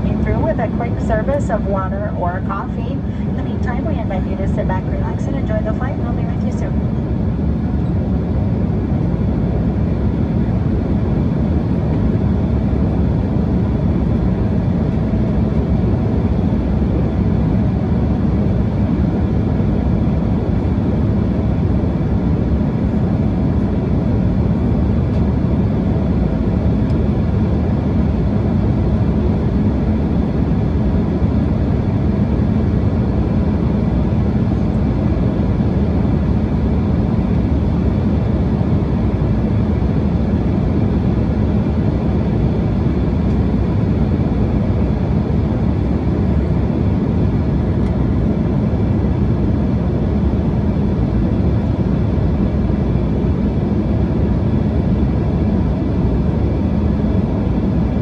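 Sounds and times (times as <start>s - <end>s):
jet cabin drone: 0.0s - 58.0s.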